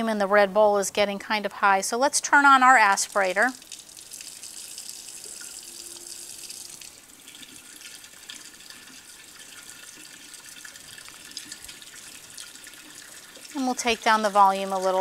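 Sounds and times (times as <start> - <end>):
tap water rushing: 2.9 - 15.0.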